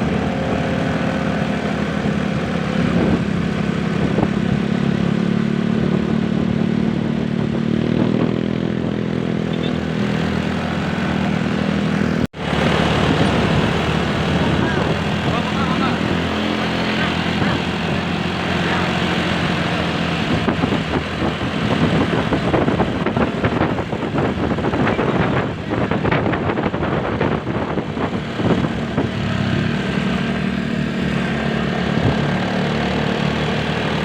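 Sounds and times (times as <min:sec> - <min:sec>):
vehicle engine humming: 0:00.0 - 0:34.0
rough traffic noise: 0:06.8 - 0:34.0.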